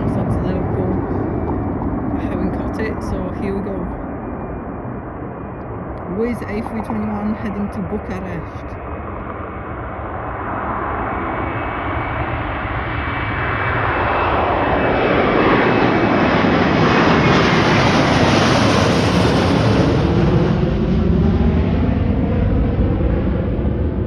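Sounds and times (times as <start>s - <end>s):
jet airliner taking off: 0.0s - 24.0s
jet engine whine sliding down: 0.0s - 24.0s.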